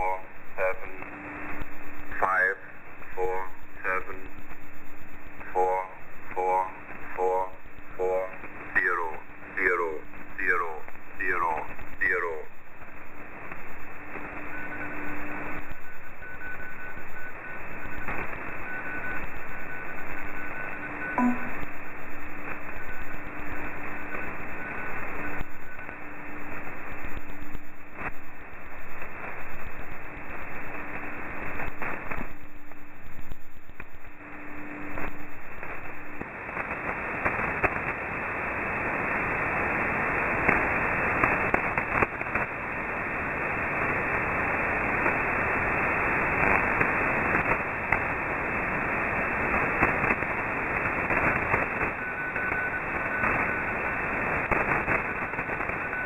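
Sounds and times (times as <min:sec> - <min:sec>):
radio static crackling: 0:00.0 - 0:56.0
steady low radio tone: 0:00.0 - 0:56.0.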